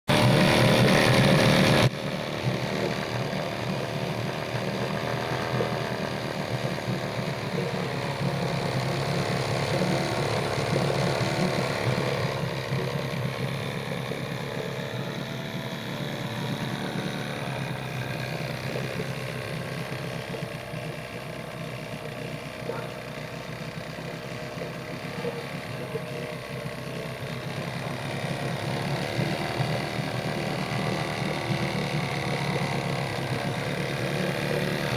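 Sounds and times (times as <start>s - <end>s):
outboard motor running: 0.1s - 34.9s.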